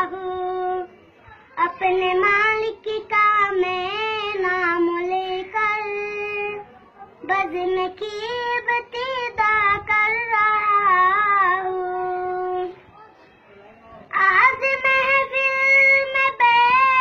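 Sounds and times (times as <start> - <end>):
boy singing in a high voice: 0.0 - 12.8, 14.1 - 17.0.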